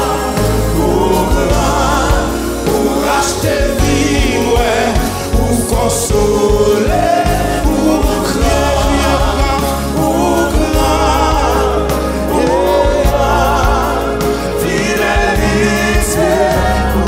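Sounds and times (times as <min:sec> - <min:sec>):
gospel singers with band: 0:00.0 - 0:17.0
sustained low bass: 0:00.0 - 0:17.0.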